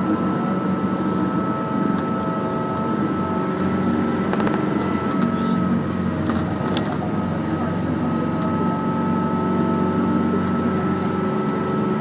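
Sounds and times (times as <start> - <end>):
bus engine and road rumble: 0.0 - 12.0
constant whine: 0.0 - 12.0.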